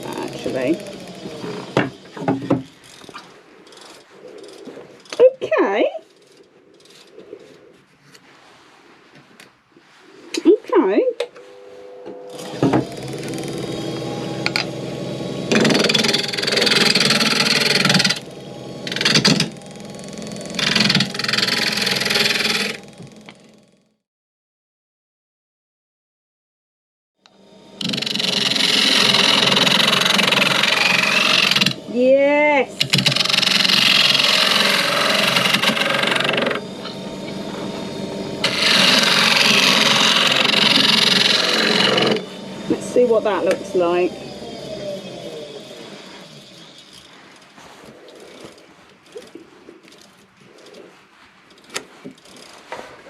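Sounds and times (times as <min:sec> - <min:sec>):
wood lathe humming: 0:00.0 - 0:05.2, 0:11.3 - 0:24.0, 0:27.3 - 0:53.0
turning tool cutting wood: 0:00.0 - 0:05.3, 0:11.3 - 0:24.0, 0:27.3 - 0:53.0.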